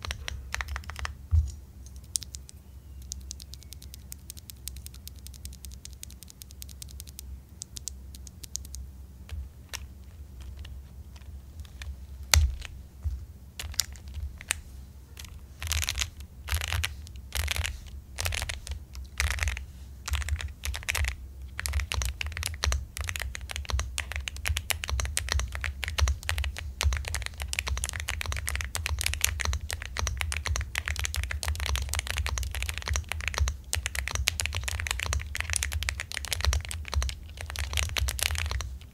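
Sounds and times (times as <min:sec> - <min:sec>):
mechanical keyboard typing: 0:00.0 - 0:01.2, 0:01.9 - 0:12.8, 0:13.6 - 0:14.6, 0:15.2 - 0:38.9.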